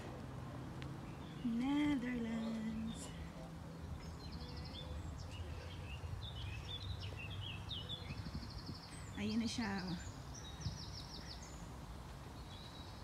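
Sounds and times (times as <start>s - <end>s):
low outdoor rumble: 0.0s - 13.0s
small songbirds chirping: 0.0s - 13.0s.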